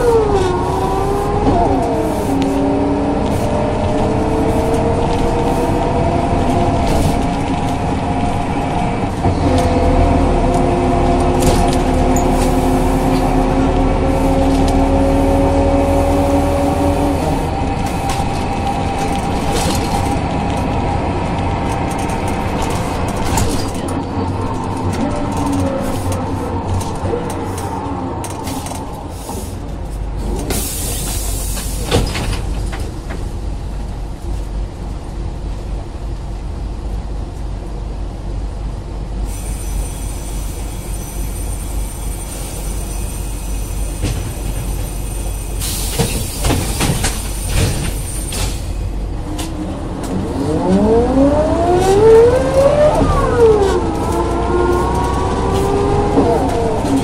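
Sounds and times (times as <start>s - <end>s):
bus diesel engine and gearbox whine: 0.0s - 57.0s.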